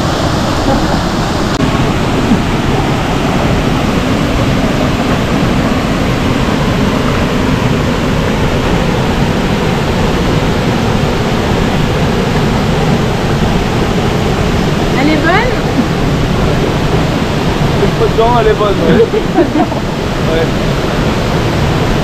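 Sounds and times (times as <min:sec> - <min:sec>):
small waterfall rushing: 0:00.0 - 0:22.0.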